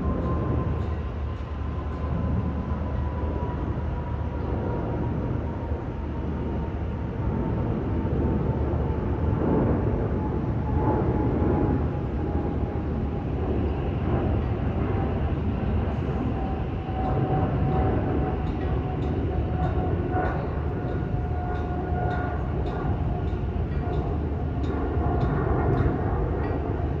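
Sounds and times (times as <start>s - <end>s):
metro train rumbling: 0.0s - 27.0s.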